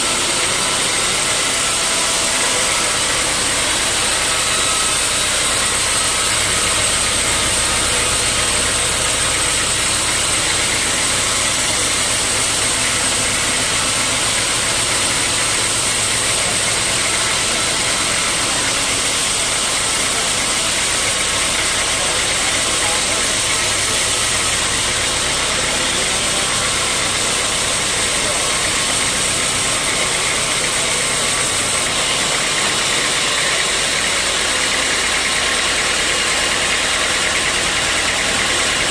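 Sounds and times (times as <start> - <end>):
sawmill machinery whining: 0.0 - 38.9.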